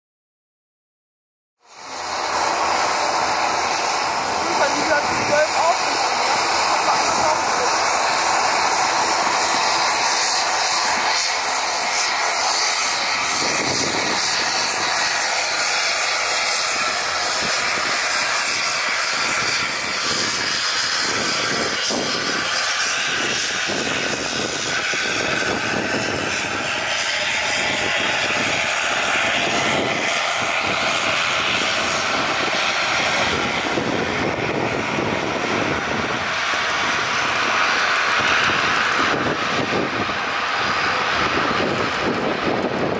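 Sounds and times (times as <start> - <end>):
jet engine noise: 1.6 - 42.9.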